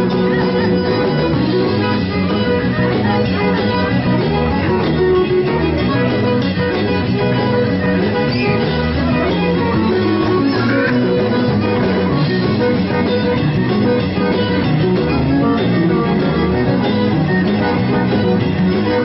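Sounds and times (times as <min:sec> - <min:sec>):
fiddle and guitar band: 0:00.0 - 0:19.0.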